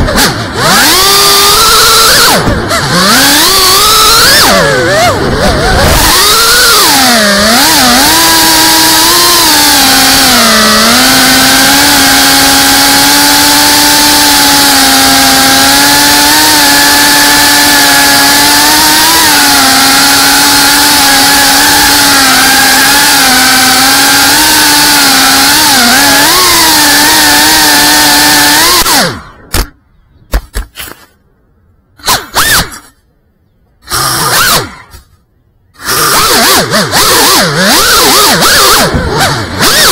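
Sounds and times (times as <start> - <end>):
drone motors whining: 0.0 - 29.6, 33.8 - 39.9.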